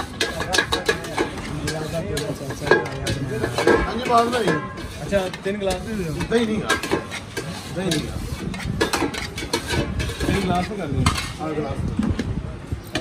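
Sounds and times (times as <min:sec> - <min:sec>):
men talking: 0:00.0 - 0:08.8, 0:09.6 - 0:12.8
steel bowls clinking and scraping: 0:00.0 - 0:11.4.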